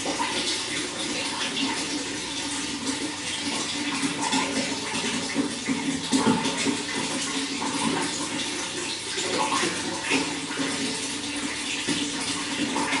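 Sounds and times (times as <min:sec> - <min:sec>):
running water flowing: 0:00.0 - 0:13.0.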